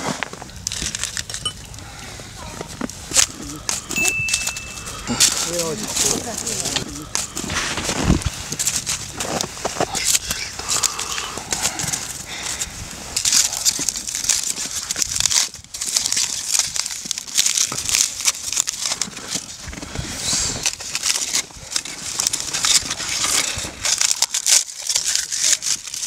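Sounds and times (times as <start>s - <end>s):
wooden sticks scraping in charcoal: 0.0s - 26.0s
aluminium foil crinkling and tearing: 0.5s - 1.8s, 2.6s - 26.0s.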